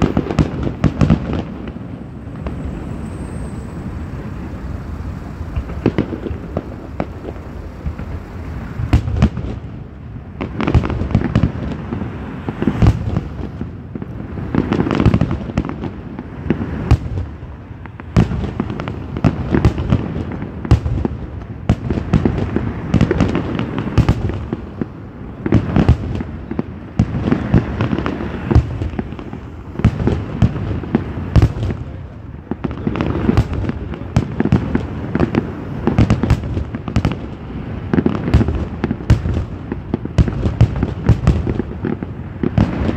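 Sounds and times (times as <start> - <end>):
fireworks bursts and bangs: 0.0 - 42.9.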